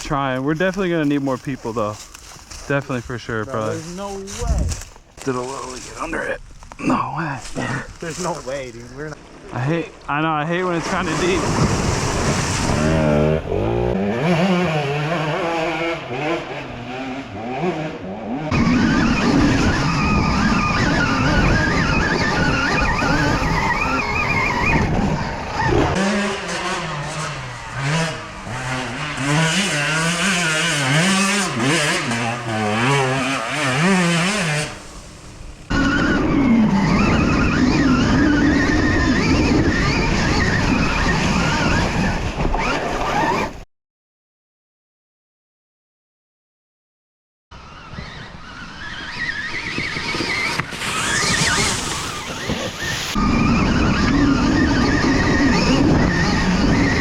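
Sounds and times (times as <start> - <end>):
off-road motorcycle engine revving: 0.0 - 43.6, 47.6 - 57.0.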